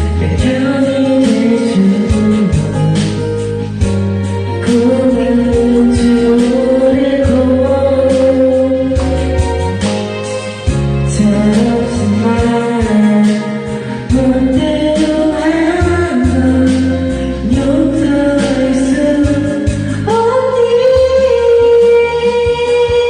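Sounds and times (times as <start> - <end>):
karaoke backing track with bass: 0.0 - 23.0
person singing: 0.0 - 23.0.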